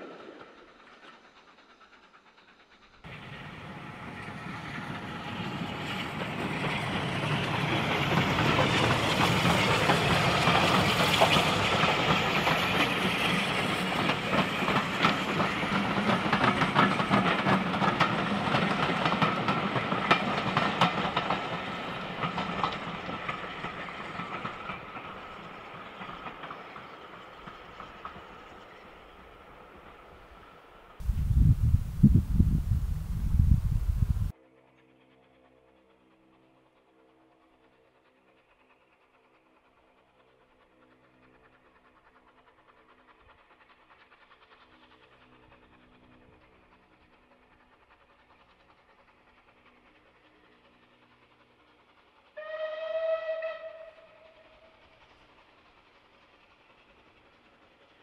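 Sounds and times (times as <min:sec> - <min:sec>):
steam train passing: 0:00.0 - 0:58.0.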